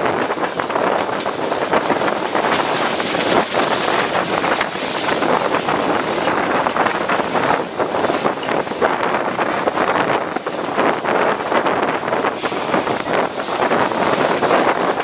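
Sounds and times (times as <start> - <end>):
train running noise: 0.0 - 15.0
wind rushing over microphone: 0.0 - 15.0.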